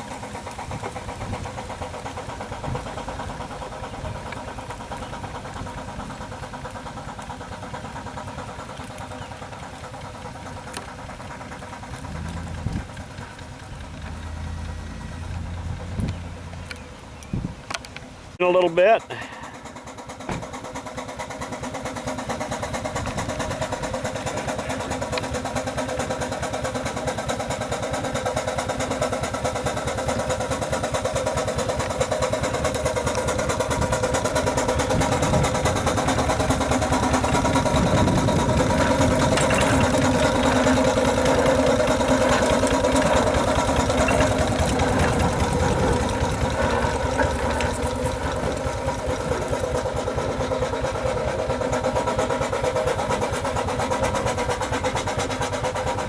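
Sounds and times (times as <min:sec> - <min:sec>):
steam traction engine beating: 0:00.0 - 0:17.1, 0:18.2 - 0:56.0.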